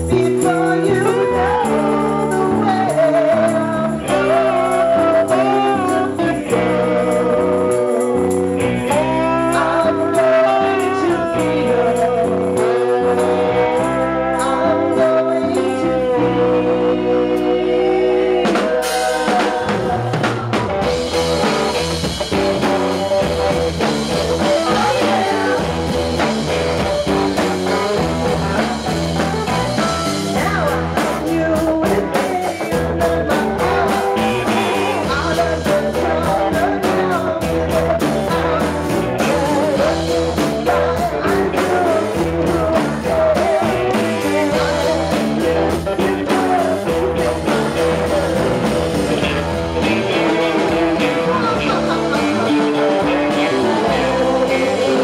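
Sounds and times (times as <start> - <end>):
bass guitar: 0.0 - 55.0
drum kit: 0.0 - 55.0
electric guitars: 0.0 - 55.0
woman singing: 0.1 - 8.2, 8.9 - 20.6, 24.4 - 25.8, 30.2 - 48.4, 49.8 - 55.0.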